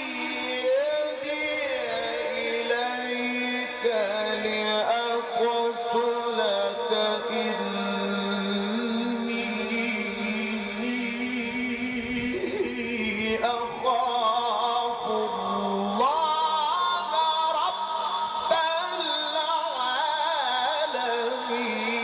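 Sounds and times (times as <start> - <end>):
man reciting melodically: 0.0 - 22.0.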